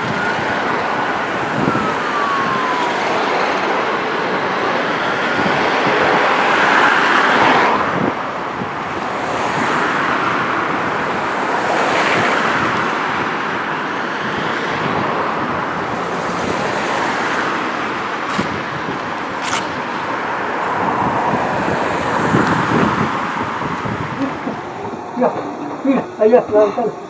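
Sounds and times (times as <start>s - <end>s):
cars driving past: 0.0s - 27.0s.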